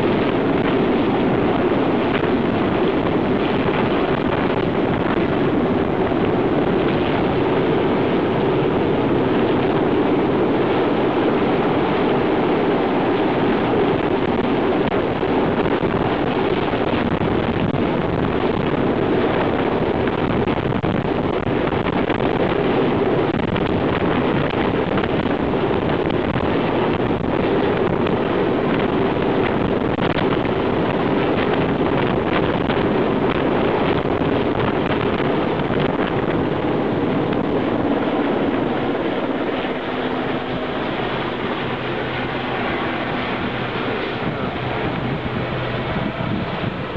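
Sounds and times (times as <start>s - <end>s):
helicopter rotor and turbine: 0.0s - 46.9s
wind buffeting microphone: 0.0s - 46.9s.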